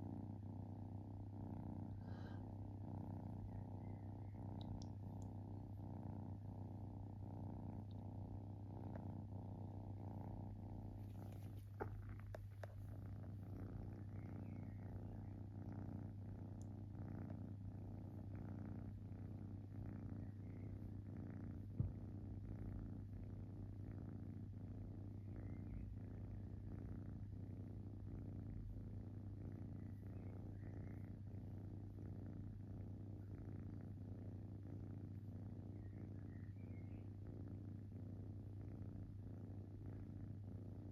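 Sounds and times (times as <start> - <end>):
kitten purring: 0.0 - 40.9.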